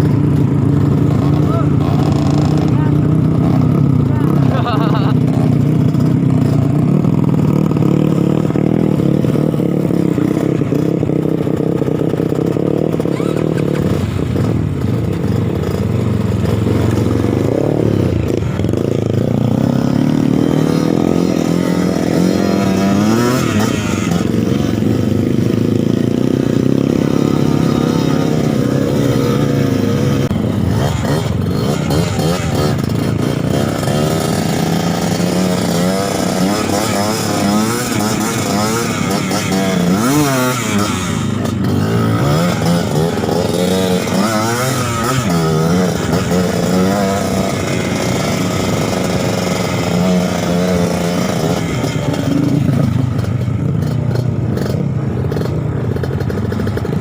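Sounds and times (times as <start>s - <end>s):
trail bike engine revving: 0.0s - 57.0s.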